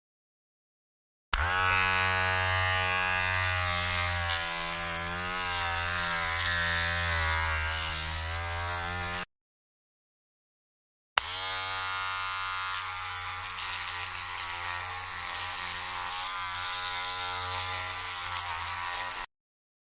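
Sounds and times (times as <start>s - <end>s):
electric hair trimmer buzzing: 1.4s - 9.3s, 11.2s - 19.3s.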